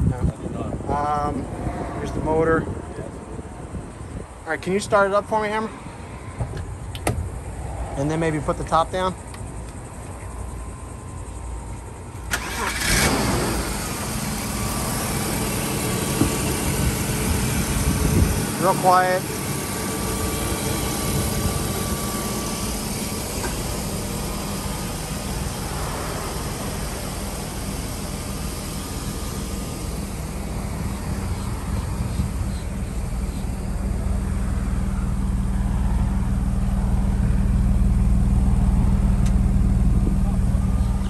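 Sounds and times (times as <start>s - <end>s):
car engine idling: 0.1s - 41.0s.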